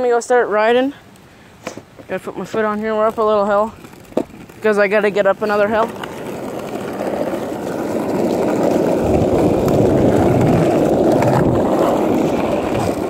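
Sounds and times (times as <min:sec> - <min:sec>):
skateboard wheels on asphalt: 0:00.0 - 0:13.0.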